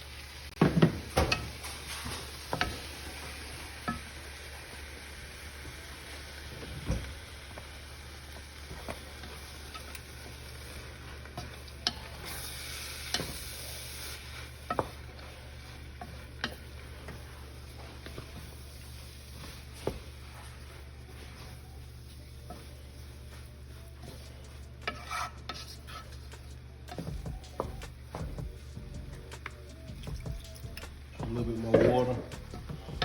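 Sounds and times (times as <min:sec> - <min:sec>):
low sizzle: 0:00.0 - 0:33.0
spoon stirring stuffing: 0:00.8 - 0:06.7, 0:07.3 - 0:33.0.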